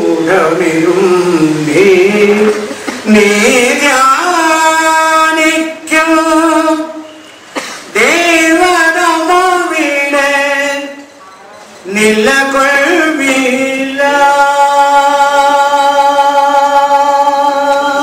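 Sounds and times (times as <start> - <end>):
man singing unaccompanied: 0.0 - 7.2, 7.8 - 11.2, 11.8 - 18.0.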